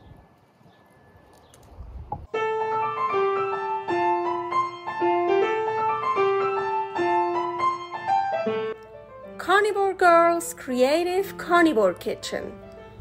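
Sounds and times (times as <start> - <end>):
solo piano music: 2.2 - 13.0.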